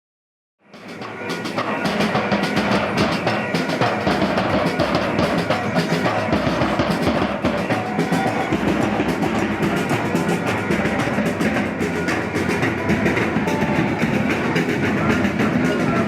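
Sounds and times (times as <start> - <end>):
drums and percussion rhythm: 0.6 - 16.0.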